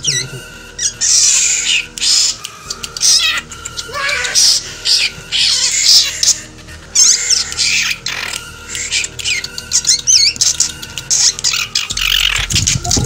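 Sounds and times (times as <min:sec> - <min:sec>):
bird harsh squawks: 0:00.0 - 0:13.0
bird wavering whistle: 0:00.0 - 0:13.0.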